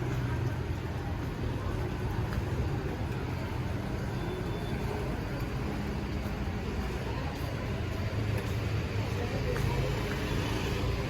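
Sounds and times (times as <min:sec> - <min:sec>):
rumble of passing vehicles: 0:00.0 - 0:11.0.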